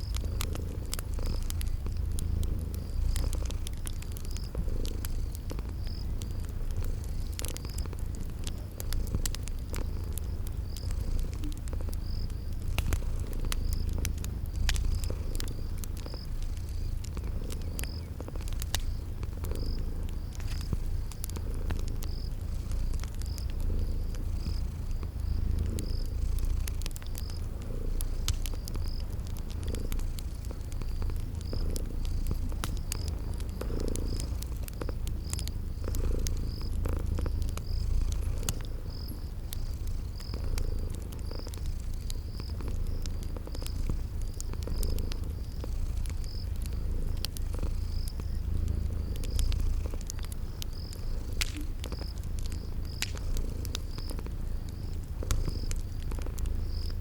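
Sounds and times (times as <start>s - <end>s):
cat purring: 0.0s - 57.0s
cricket chirping: 0.0s - 57.0s
wood fire crackling: 0.0s - 57.0s.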